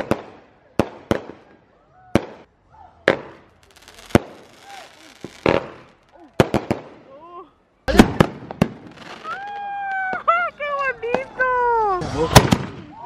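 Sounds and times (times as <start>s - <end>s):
fireworks bangs: 0.0s - 7.1s, 7.9s - 13.0s
fireworks crackling: 0.0s - 7.2s, 7.9s - 13.0s.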